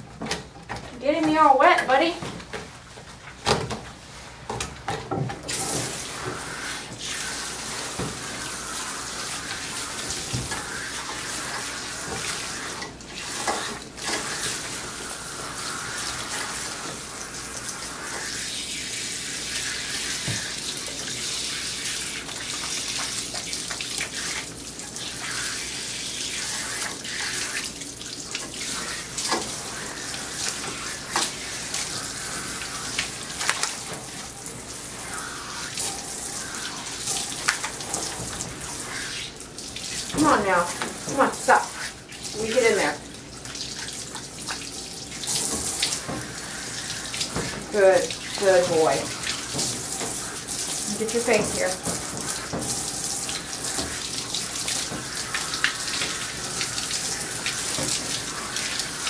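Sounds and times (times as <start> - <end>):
water spraying and splashing: 5.4 - 59.0.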